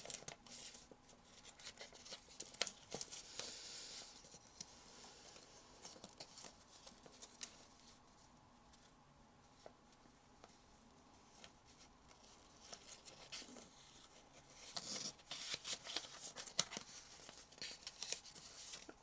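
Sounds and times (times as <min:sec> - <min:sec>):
paper crinkling and folding: 0:00.0 - 0:08.0, 0:11.2 - 0:19.0
paper rustle: 0:00.0 - 0:08.0, 0:11.2 - 0:19.0.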